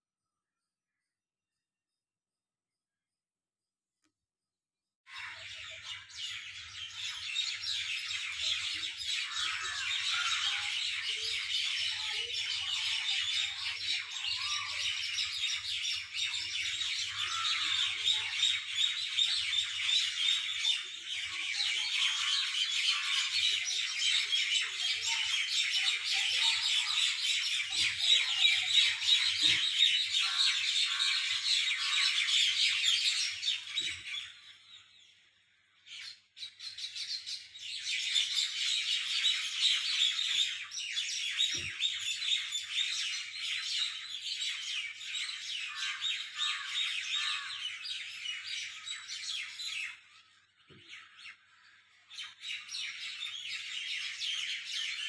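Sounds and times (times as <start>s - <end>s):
birds chirping in chorus: 5.1s - 55.0s.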